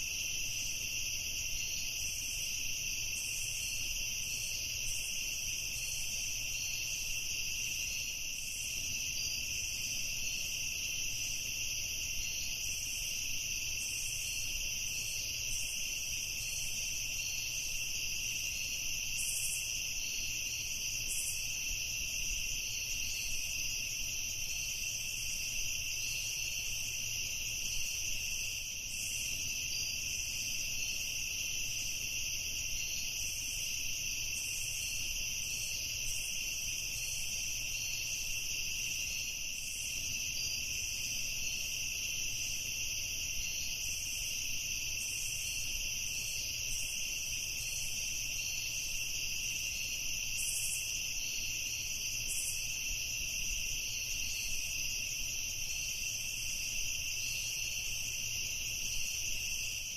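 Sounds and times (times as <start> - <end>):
crickets and insects trilling: 0.0 - 59.9.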